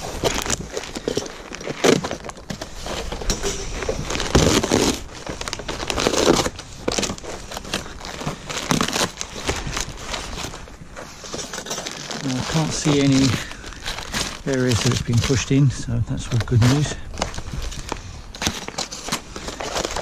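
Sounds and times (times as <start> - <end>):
cardboard tearing: 0.0 - 15.6, 16.3 - 20.0
paper packaging crinkling: 0.0 - 20.0.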